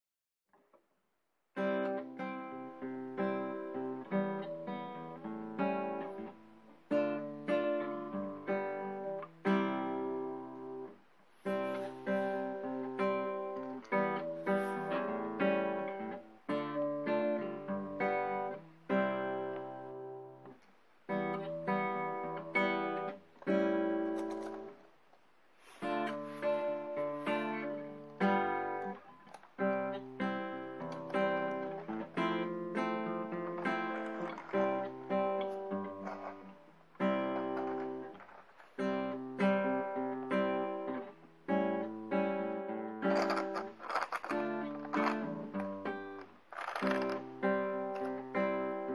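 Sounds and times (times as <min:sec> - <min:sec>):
acoustic guitar strumming chords: 0:01.6 - 0:24.8, 0:25.6 - 0:48.9.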